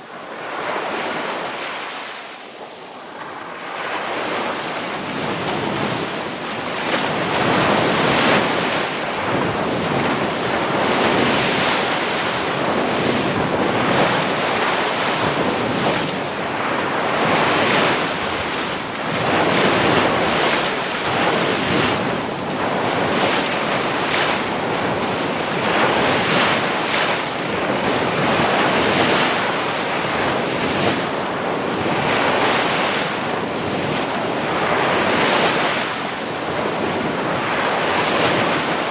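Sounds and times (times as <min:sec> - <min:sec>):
ocean waves breaking: 0:00.0 - 0:38.9
wind noise on microphone: 0:00.0 - 0:38.9.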